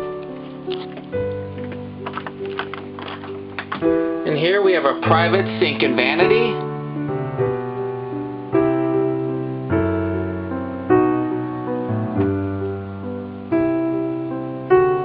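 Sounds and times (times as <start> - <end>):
slow electric piano chords: 0.0 - 15.0.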